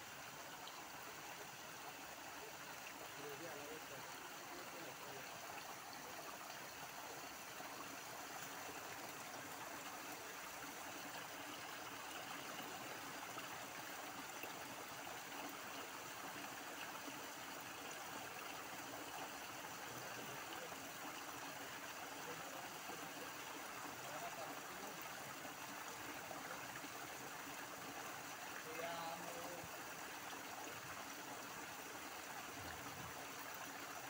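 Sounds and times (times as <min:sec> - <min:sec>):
creek water running: 0:00.0 - 0:34.0.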